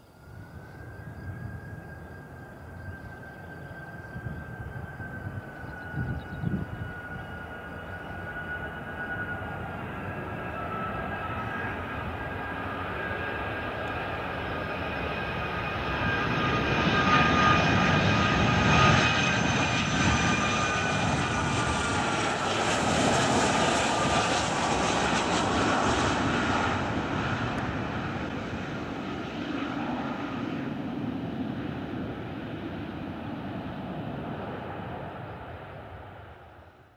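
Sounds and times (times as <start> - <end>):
jet airliner passing overhead: 0.0 - 36.9.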